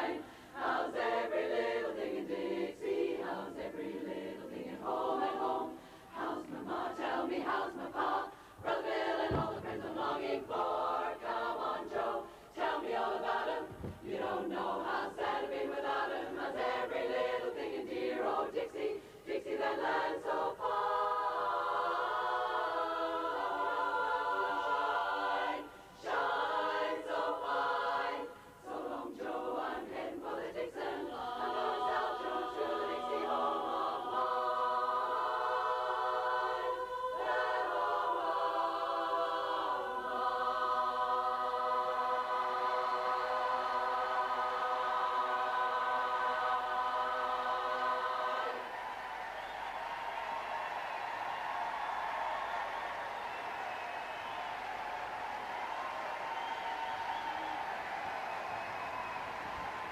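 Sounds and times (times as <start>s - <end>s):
women's chorus singing a cappella: 0.0s - 59.9s.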